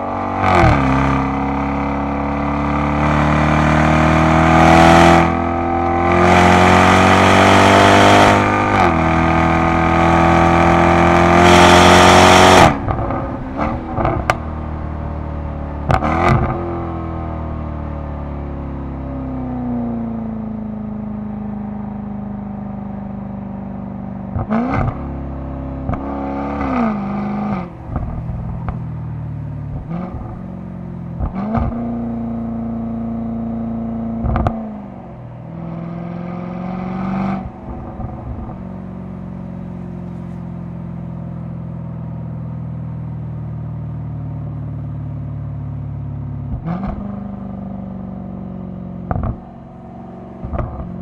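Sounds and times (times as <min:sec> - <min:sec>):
car engine shifting gears: 0:00.0 - 0:23.2, 0:24.2 - 0:51.0.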